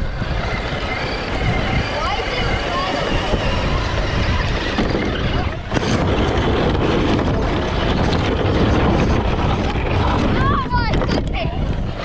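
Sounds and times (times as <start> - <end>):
toy truck drivetrain rumble: 0.0 - 12.0
tyres scrabbling in dirt: 0.0 - 12.0.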